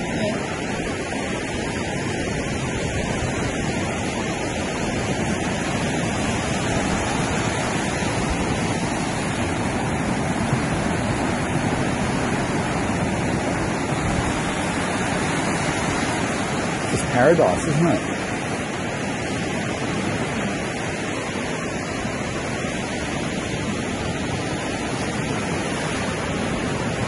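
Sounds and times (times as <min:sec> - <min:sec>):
sea surf washing: 0:00.0 - 0:27.0
wind on microphone: 0:00.0 - 0:27.0.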